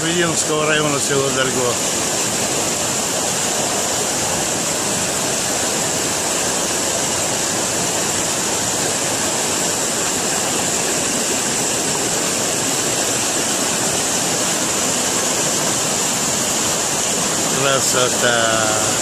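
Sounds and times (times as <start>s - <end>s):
river rushing over boulders: 0.0s - 19.0s.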